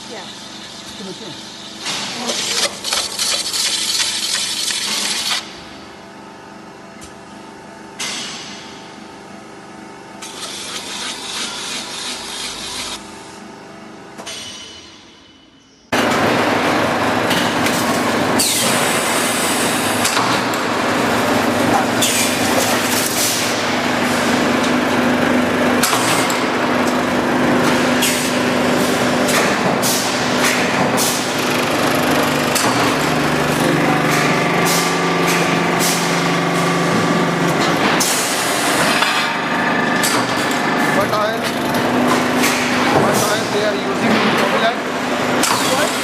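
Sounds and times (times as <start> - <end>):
factory machinery humming: 0.0 - 46.0.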